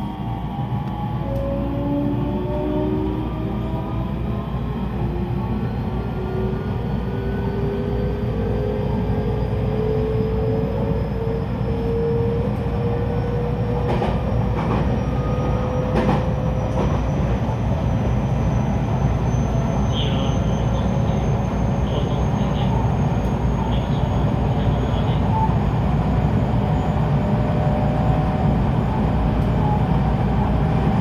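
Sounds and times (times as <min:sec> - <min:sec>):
electric train rumble and whine: 0:00.0 - 0:31.0.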